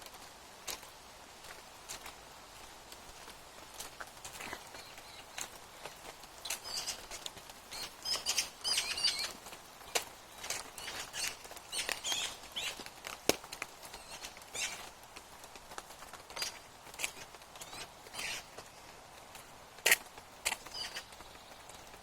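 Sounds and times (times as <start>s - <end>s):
small birds chirping: 3.3s - 22.0s.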